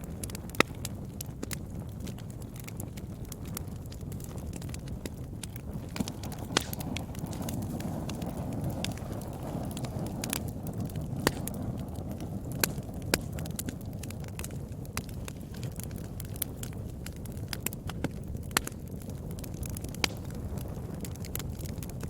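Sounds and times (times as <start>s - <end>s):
loud fire snaps: 0.0s - 22.0s
wood fire crackling and popping: 0.0s - 22.0s.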